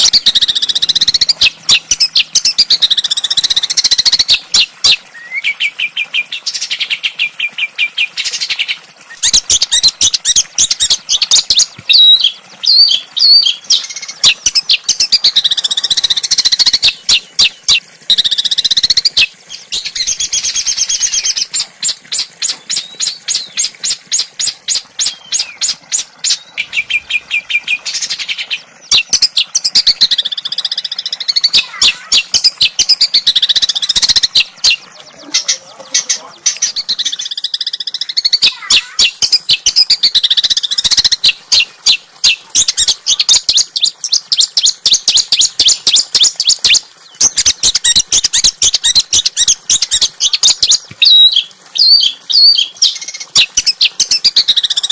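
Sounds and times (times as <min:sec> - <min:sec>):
songbird singing trills: 0:00.0 - 0:54.9.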